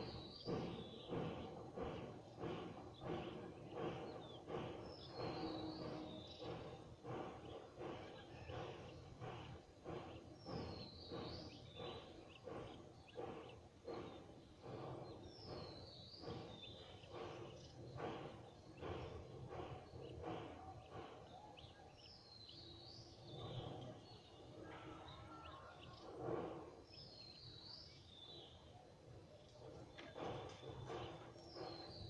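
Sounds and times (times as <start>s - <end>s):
irregular distant sounds: 0.0s - 32.0s.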